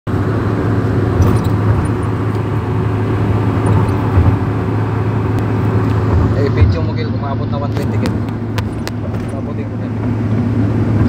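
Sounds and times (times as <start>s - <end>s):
car engine and road drone: 0.1s - 11.0s.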